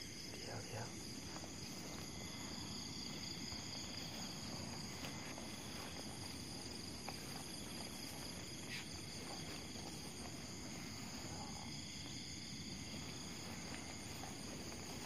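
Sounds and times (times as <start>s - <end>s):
crickets chirring: 0.0s - 15.0s
rustling through grass: 1.0s - 15.0s.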